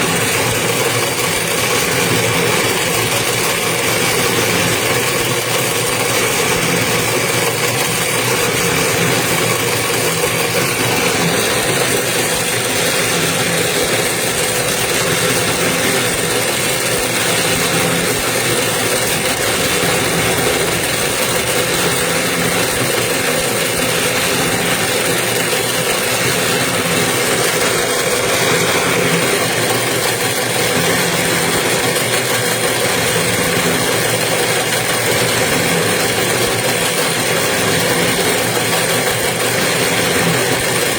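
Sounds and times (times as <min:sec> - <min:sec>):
winding machine running: 0:00.0 - 0:40.9.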